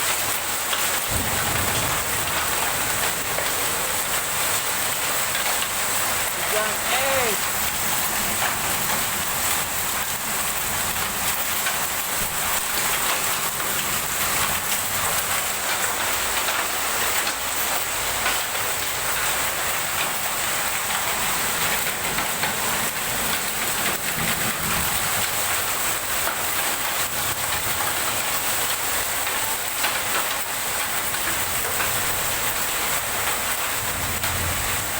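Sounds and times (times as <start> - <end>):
heavy rain and hail pelting: 0.0 - 34.9.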